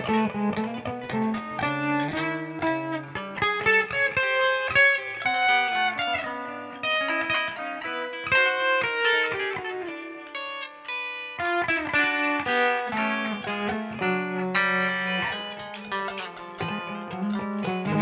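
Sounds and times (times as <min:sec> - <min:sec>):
plucked guitar melody: 0:00.0 - 0:18.0.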